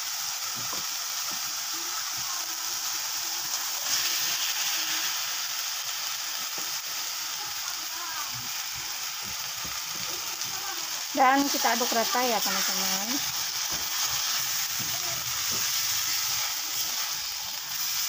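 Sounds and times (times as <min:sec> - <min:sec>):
paste sizzling in a wok: 0:00.0 - 0:18.0.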